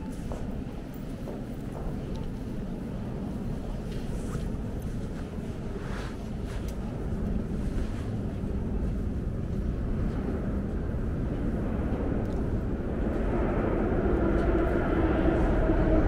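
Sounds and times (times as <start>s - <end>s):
metro train rumble: 0.0s - 16.0s.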